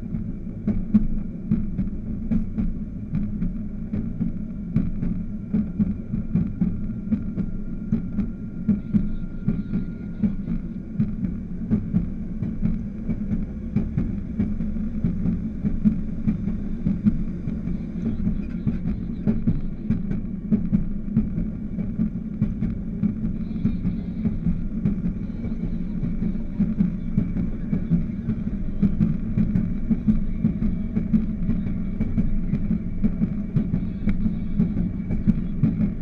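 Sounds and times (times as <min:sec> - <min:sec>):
rail motorcar engine drone: 0:00.0 - 0:36.0.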